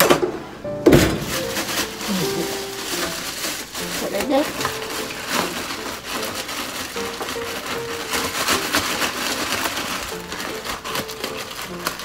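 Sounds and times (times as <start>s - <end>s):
crackly rustling of food preparation: 0.0s - 12.0s
light background music: 0.6s - 12.0s.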